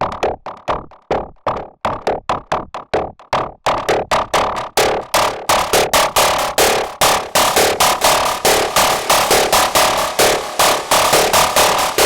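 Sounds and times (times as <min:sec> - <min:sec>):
synthesizer plucked notes sequence: 0:00.0 - 0:12.0.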